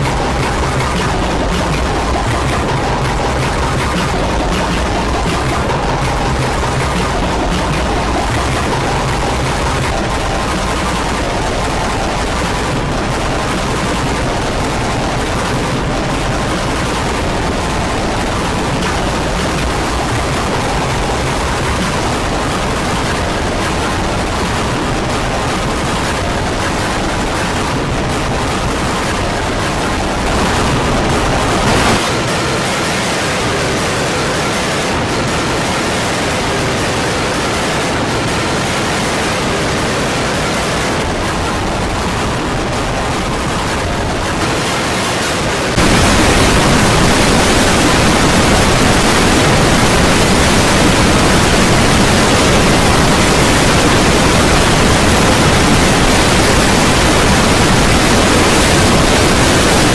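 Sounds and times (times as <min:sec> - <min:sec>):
harsh static hiss: 0:00.0 - 0:59.9.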